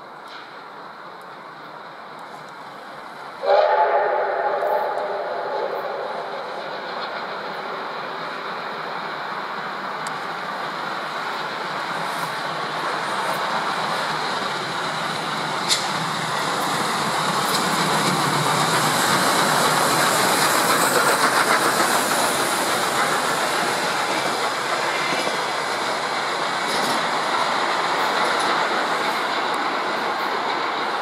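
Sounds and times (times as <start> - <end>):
steam train passing: 0.0 - 31.0.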